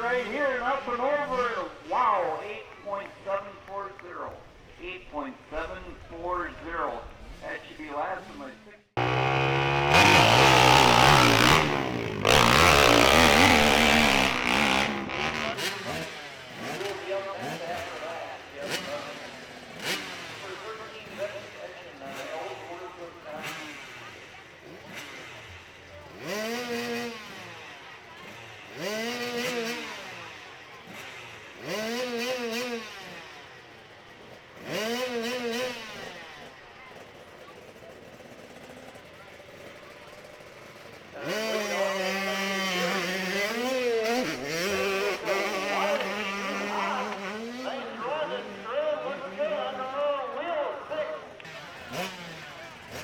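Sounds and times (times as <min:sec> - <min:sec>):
dirt bike engine revving: 0:07.3 - 0:53.0.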